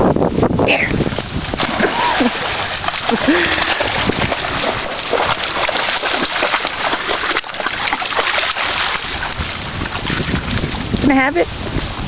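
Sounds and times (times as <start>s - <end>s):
dogs splashing through water: 1.0s - 11.3s.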